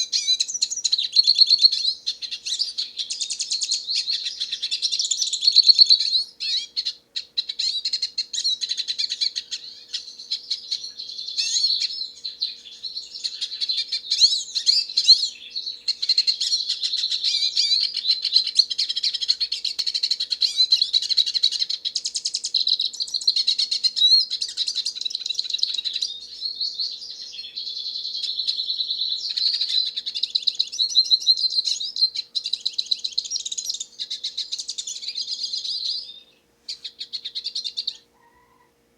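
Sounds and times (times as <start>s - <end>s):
bird singing twittering song: 0.0s - 38.7s.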